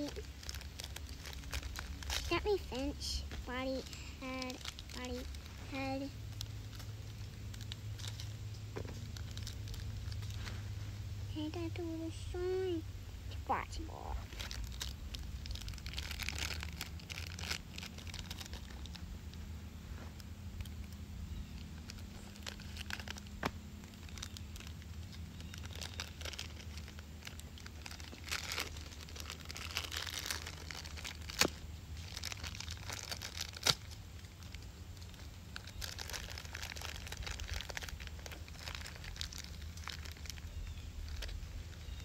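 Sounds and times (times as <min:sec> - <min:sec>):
plastic bag crinkling: 0:00.0 - 0:10.8, 0:14.2 - 0:42.0.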